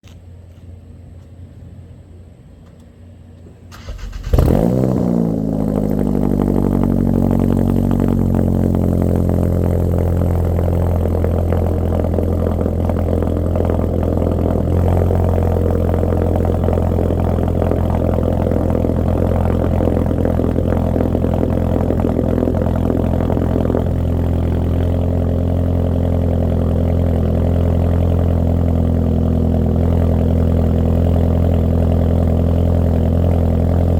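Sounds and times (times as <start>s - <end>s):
car engine cold start and idle: 2.6s - 33.9s.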